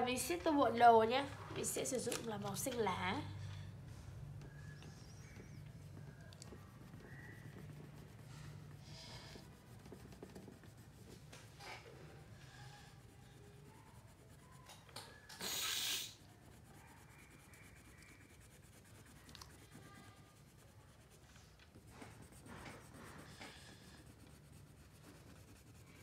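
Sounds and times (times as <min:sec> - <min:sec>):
crayon scratching on paper: 0:04.4 - 0:26.0.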